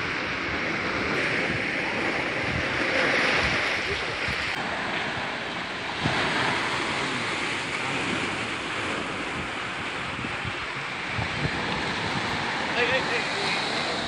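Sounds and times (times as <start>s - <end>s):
surf breaking on beach: 0.0s - 14.0s
wind rumbling on microphone: 0.0s - 14.0s.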